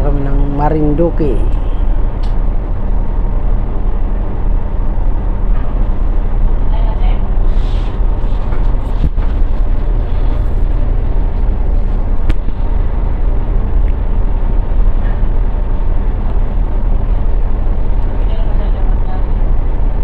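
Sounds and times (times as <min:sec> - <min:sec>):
ship diesel engine rumbling: 0:00.0 - 0:20.0.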